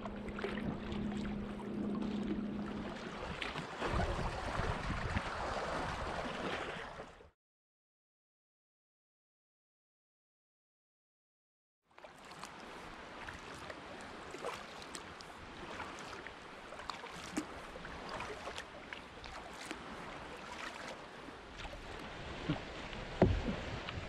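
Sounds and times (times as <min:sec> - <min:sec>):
water lapping against kayak hull: 0:00.0 - 0:07.3, 0:11.9 - 0:24.0.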